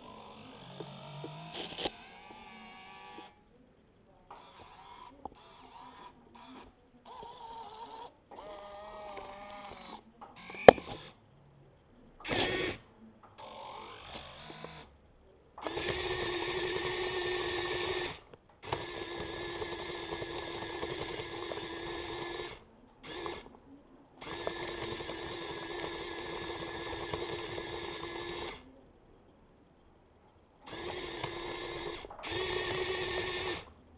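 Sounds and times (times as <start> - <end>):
small electric motors whining: 0.0 - 3.6, 4.3 - 11.2, 12.2 - 15.0, 15.6 - 23.6, 24.2 - 28.8, 30.6 - 33.9.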